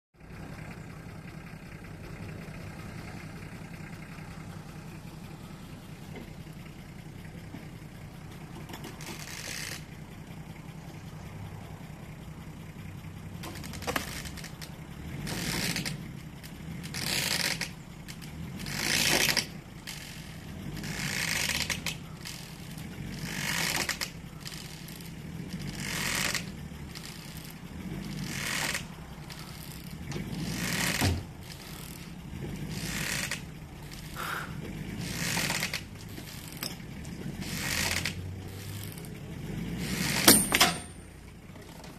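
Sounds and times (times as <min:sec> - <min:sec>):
engine running with loud surges: 0:00.2 - 0:41.9.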